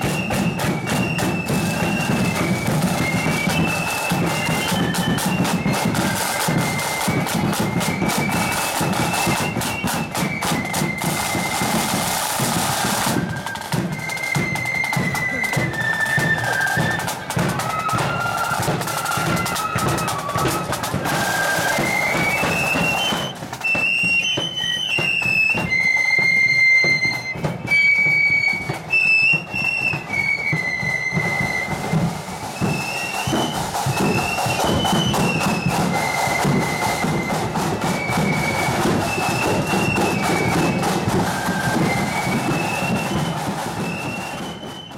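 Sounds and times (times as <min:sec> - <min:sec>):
flutes playing high melody: 0:00.0 - 0:44.9
side drums and bass drum: 0:00.0 - 0:44.9.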